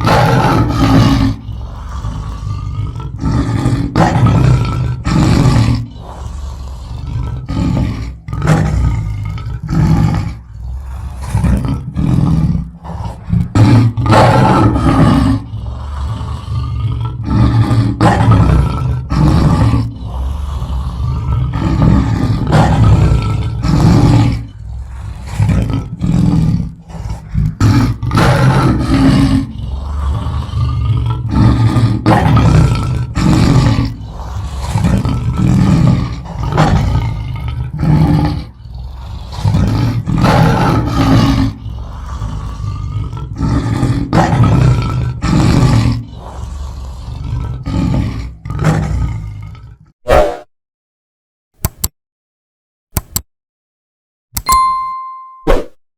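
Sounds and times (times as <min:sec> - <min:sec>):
lion roaring: 0:00.0 - 0:49.9.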